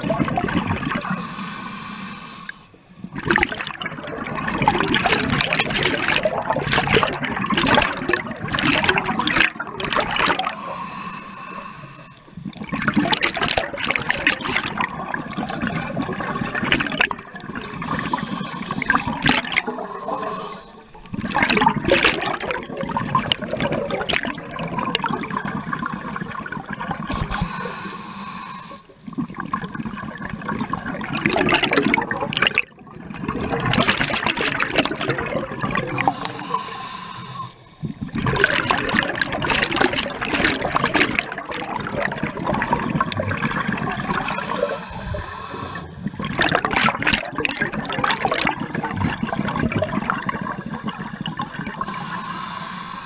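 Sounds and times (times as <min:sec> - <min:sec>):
scuba regulator bubbles underwater: 0:00.0 - 0:53.0.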